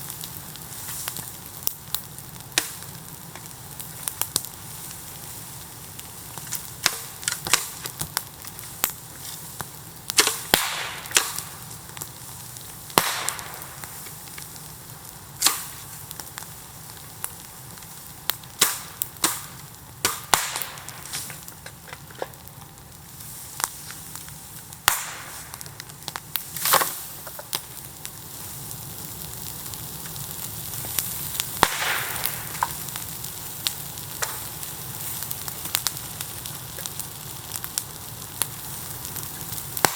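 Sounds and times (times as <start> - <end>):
bonfire crackling: 0.0 - 39.9
fire hissing: 0.0 - 39.9
bamboo popping and cracking: 1.1 - 4.6, 6.3 - 12.2, 12.9 - 14.6, 15.3 - 22.7, 23.6 - 28.8, 29.6 - 39.9.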